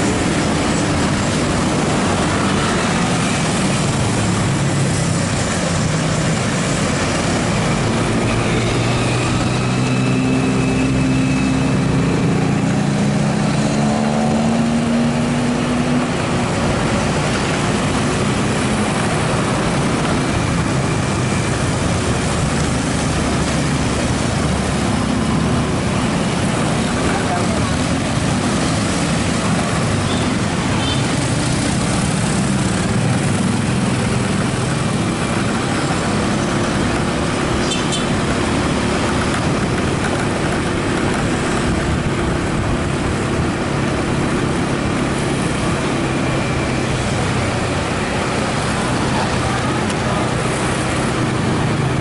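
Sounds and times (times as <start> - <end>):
motorcycle engine: 0.0 - 52.0
road and wind noise: 0.0 - 52.0.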